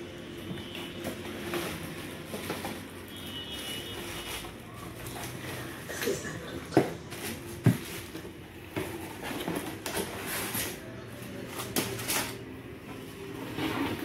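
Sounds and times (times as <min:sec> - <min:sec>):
cardboard and plastic rustling: 0:00.0 - 0:06.0, 0:06.6 - 0:14.0.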